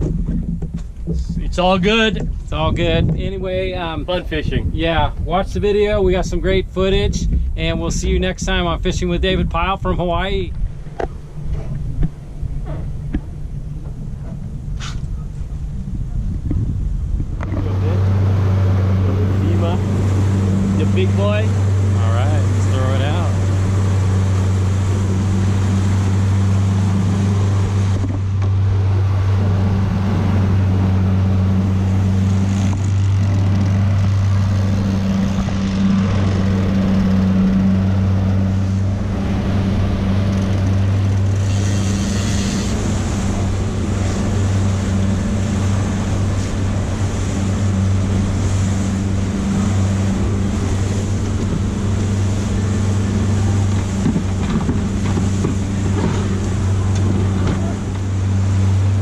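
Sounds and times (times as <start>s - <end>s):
boat engine humming: 0.0s - 59.0s
wind: 0.0s - 59.0s.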